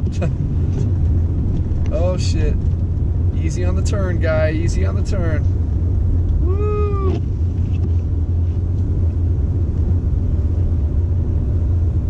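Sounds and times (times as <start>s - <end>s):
car engine rumble: 0.0s - 12.0s
tyres on snowy road: 0.0s - 12.0s.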